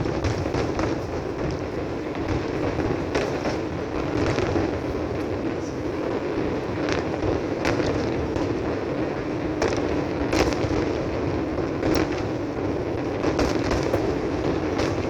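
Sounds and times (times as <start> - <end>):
distant fireworks rumble: 0.0 - 15.0
firework cracks: 0.0 - 15.0.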